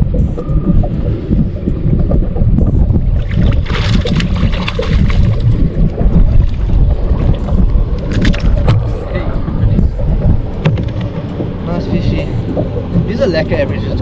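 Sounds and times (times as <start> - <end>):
water noise: 0.0 - 14.0
wind buffeting microphone: 0.0 - 14.0.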